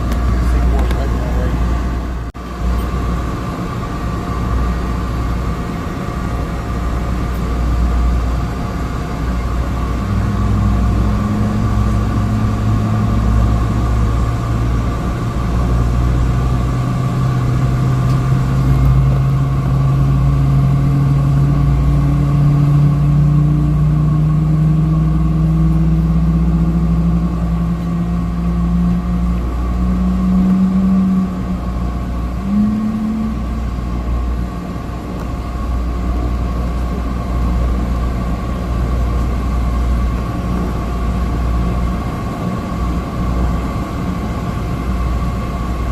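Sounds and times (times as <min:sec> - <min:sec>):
turboprop engine droning in cabin: 0:00.0 - 0:45.9.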